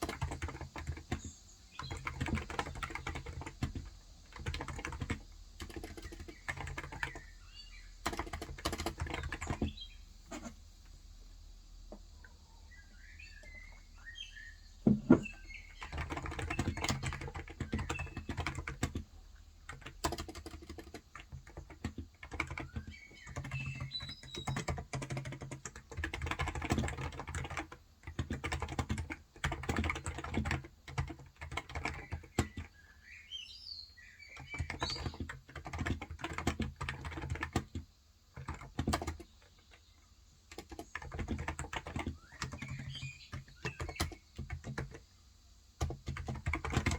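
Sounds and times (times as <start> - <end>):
typing on a keyboard: 0.0 - 7.3, 8.0 - 9.8, 14.9 - 32.8, 34.3 - 39.9, 40.5 - 45.0, 45.8 - 46.9
bird chirping faintly: 0.0 - 28.9, 29.5 - 45.0.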